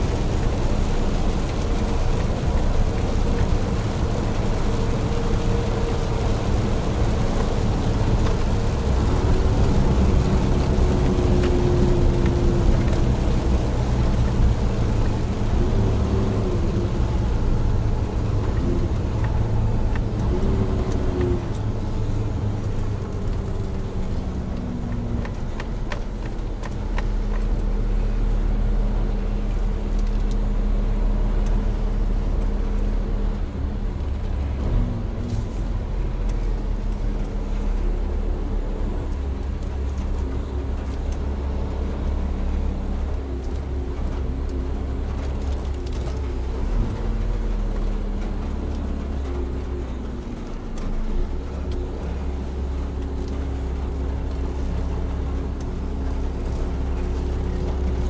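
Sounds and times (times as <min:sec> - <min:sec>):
road noise hiss: 0:00.0 - 0:58.0
truck diesel engine droning: 0:00.0 - 0:58.0.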